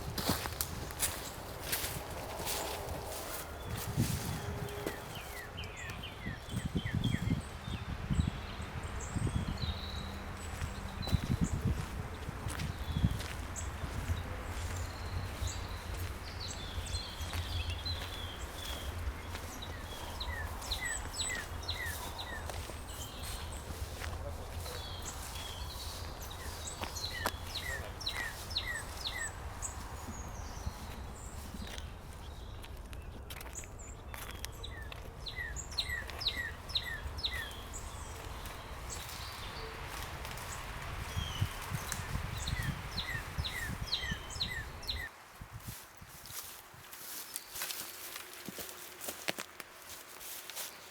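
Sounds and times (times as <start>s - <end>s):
wind rumble on microphone: 0.0s - 33.3s, 35.0s - 46.9s
small birds chirping: 0.0s - 45.1s.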